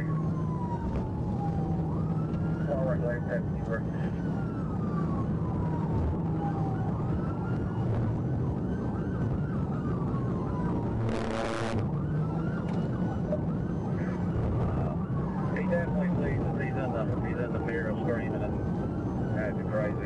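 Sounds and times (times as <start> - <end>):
car engine drone: 0.0 - 20.0
police siren wailing: 0.0 - 20.0
road noise: 0.0 - 20.0.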